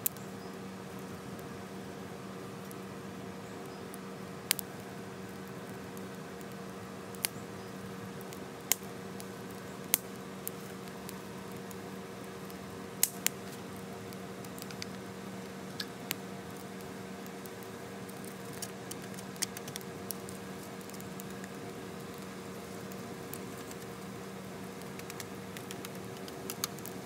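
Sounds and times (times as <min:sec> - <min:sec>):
wood fire crackling and popping: 0:00.0 - 0:27.0
fire hissing: 0:01.0 - 0:27.0.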